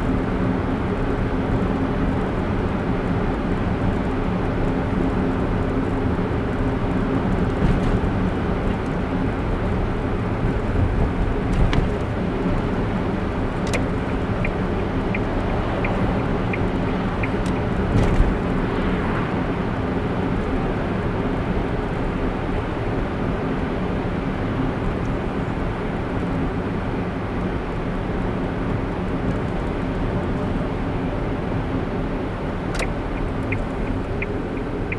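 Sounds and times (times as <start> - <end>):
car road and engine hum: 0.0 - 34.9.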